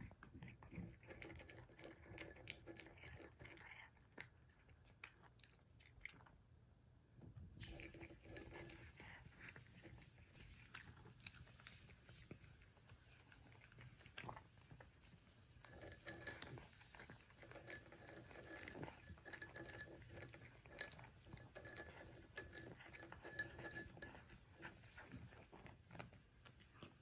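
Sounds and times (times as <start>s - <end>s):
cat crunching kibble: 0.0s - 6.6s, 7.4s - 27.0s
kibble clinking against bowl: 0.3s - 5.3s, 7.6s - 11.0s, 13.4s - 26.9s.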